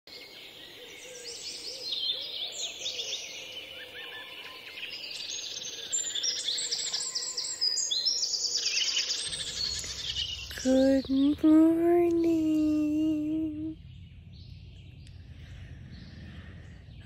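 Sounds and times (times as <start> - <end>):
songbirds chirping and trilling: 0.1 - 17.0.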